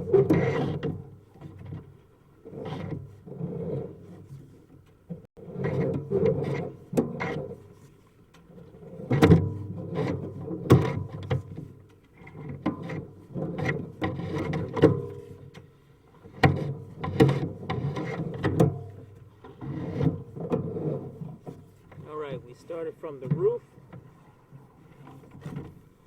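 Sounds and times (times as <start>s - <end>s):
cable scraping in pipe: 0.0s - 26.0s.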